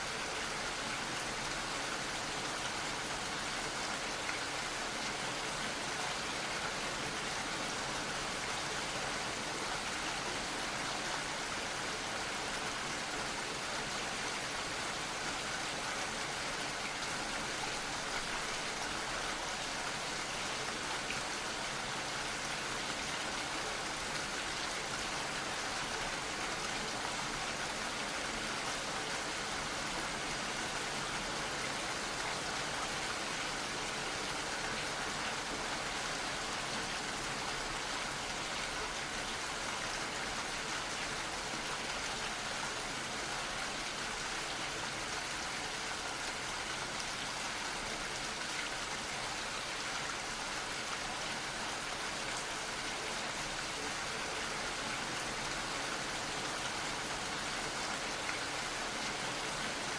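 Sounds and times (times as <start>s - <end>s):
gentle steady rain: 0.0s - 59.9s.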